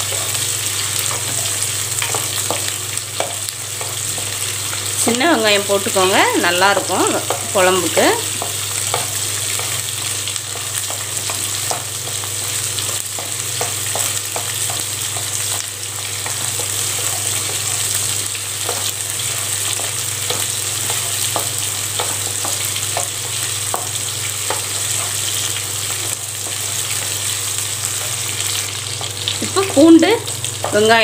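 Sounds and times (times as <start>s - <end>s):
shallots and garlic sizzling: 0.0s - 31.0s.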